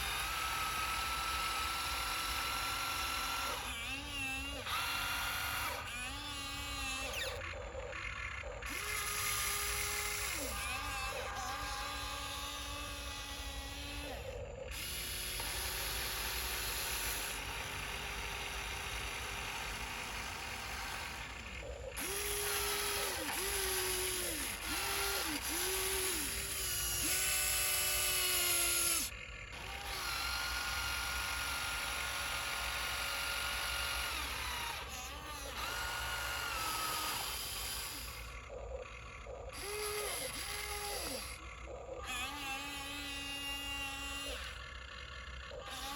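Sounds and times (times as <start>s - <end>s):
electric motors whining: 0.0s - 45.9s.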